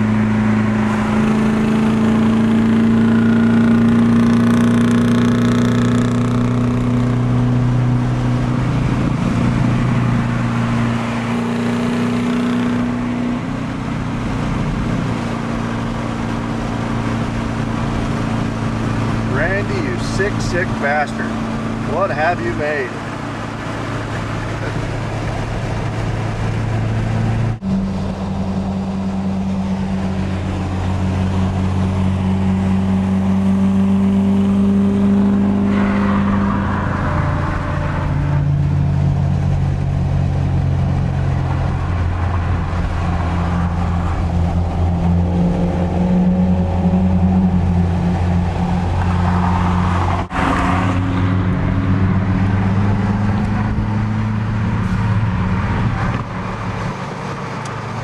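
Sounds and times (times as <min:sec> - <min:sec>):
car engine hum inside cabin: 0:00.0 - 0:58.0.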